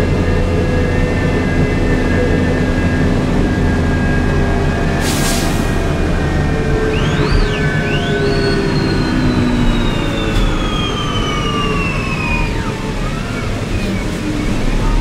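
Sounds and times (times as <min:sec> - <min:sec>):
bus engine rumble: 0:00.0 - 0:15.0
high engine whine: 0:00.0 - 0:15.0.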